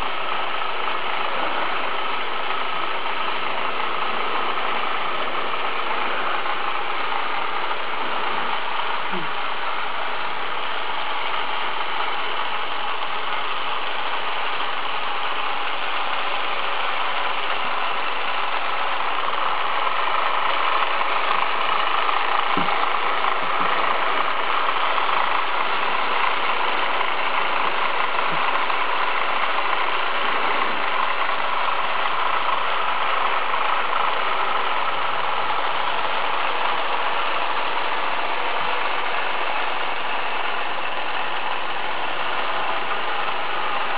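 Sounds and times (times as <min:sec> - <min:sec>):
model ride motor whirring: 0:00.0 - 0:43.9.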